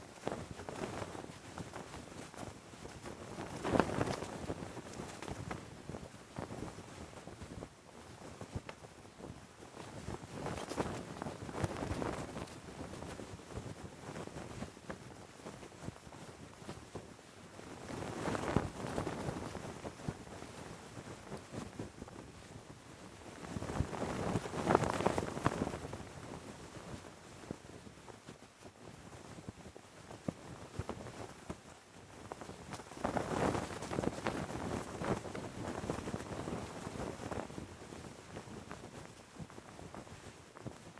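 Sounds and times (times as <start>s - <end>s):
flag flapping in the wind: 0.0s - 40.9s.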